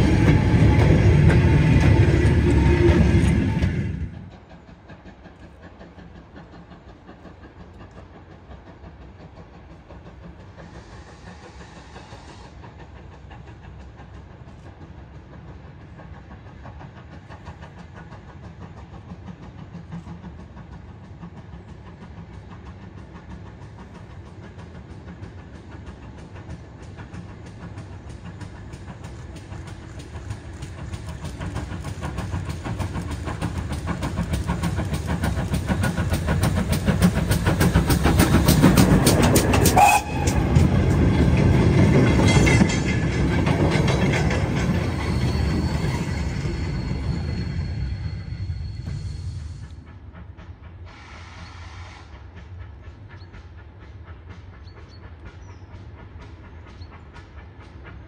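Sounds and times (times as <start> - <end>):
steam hiss: 0.0 - 58.0
steam locomotive working: 0.0 - 58.0.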